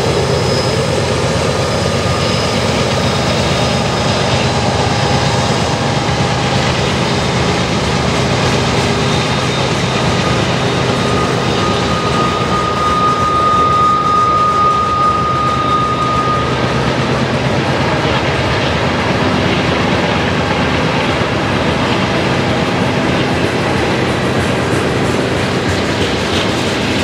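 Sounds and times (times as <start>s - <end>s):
freight train wheels rumbling: 0.0s - 27.0s
high squeal: 0.0s - 27.0s.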